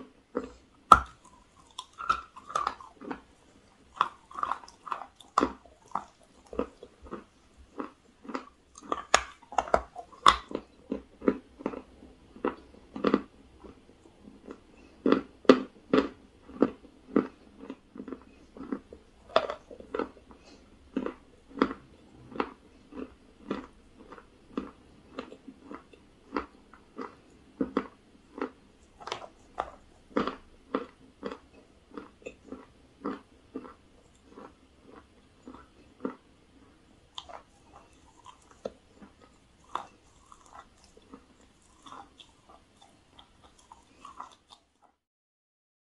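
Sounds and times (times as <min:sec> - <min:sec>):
person crunching chalky cake: 0:00.3 - 0:45.0.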